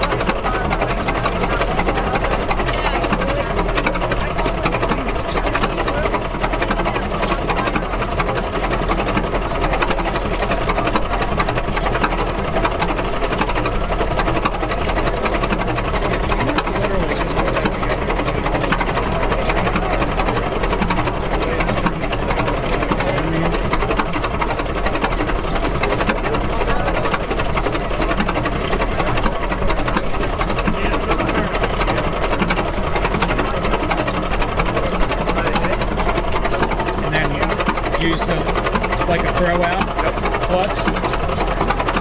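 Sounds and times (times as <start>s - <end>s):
old gas engine clattering: 0.0s - 42.0s.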